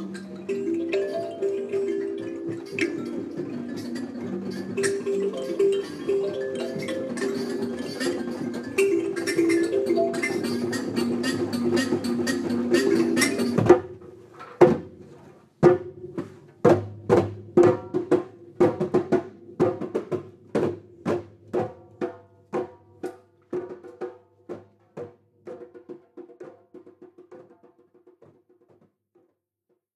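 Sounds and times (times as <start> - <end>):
percussion ensemble: 0.0 - 29.3.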